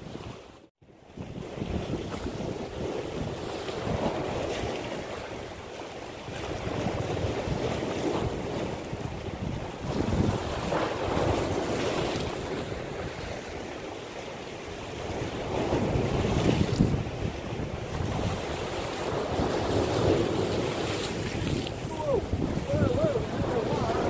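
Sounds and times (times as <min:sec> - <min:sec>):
sea waves breaking against rocks: 0:00.0 - 0:24.0
wind buffeting microphone: 0:01.0 - 0:24.0.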